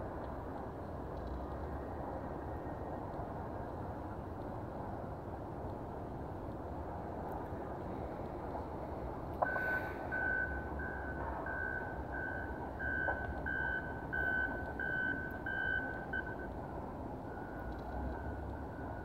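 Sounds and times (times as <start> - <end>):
distant diesel locomotive rumble: 0.0 - 19.0
faint steady tone: 0.0 - 19.0.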